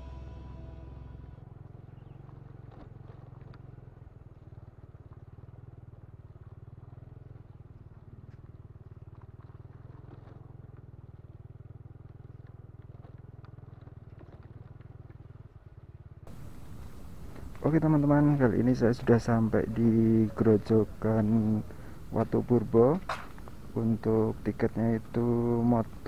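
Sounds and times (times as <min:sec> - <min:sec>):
motorcycle engine low rumble: 0:00.0 - 0:26.0.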